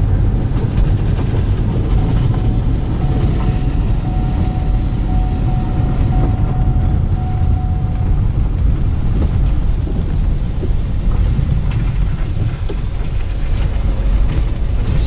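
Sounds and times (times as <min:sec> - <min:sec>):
car driving rumble from inside: 0:00.0 - 0:15.0.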